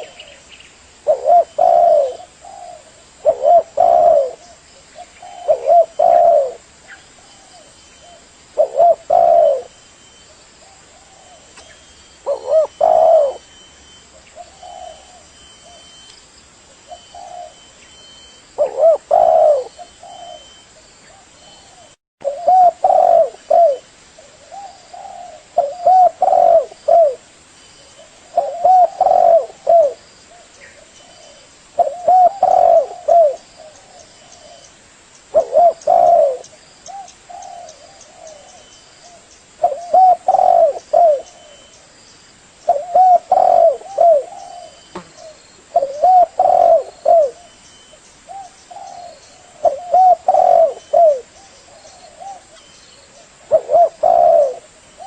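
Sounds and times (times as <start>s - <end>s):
dove cooing: 0.0s - 0.4s, 1.0s - 16.0s, 16.7s - 27.2s, 27.8s - 34.7s, 35.3s - 41.9s, 42.6s - 55.0s.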